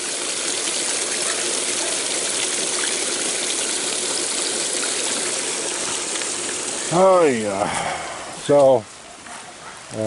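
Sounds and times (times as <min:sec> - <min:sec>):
water pouring from a pipe: 0:00.0 - 0:08.8.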